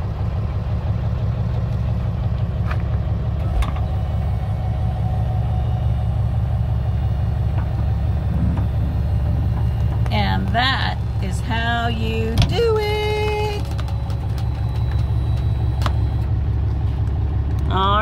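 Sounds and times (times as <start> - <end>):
pickup truck engine idling: 0.0 - 18.0.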